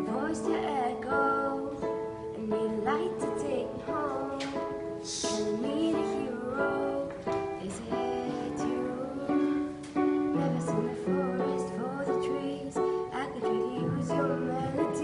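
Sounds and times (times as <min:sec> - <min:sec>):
girl singing pop ballad: 0:00.0 - 0:15.0.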